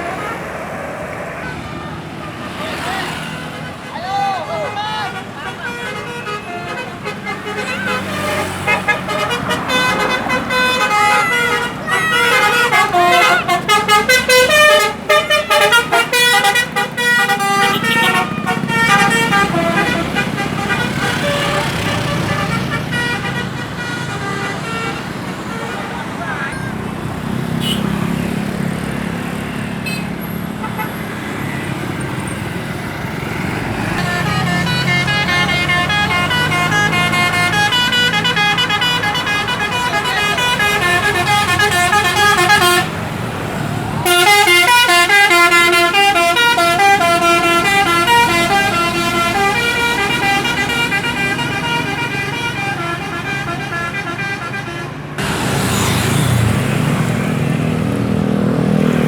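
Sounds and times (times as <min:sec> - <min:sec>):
bus multi-tone horn melody: 0:00.0 - 0:59.0
engine and traffic noise: 0:00.0 - 0:59.0.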